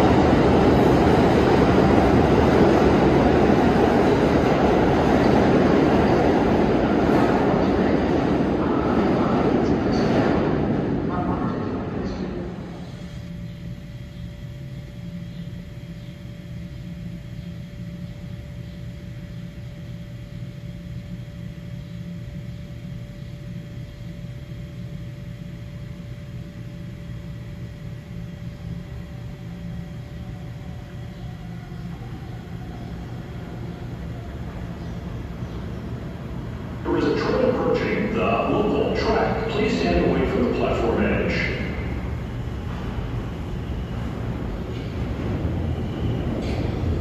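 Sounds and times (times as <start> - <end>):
faint steady hum: 0.0 - 47.0
subway station rumble: 0.0 - 47.0.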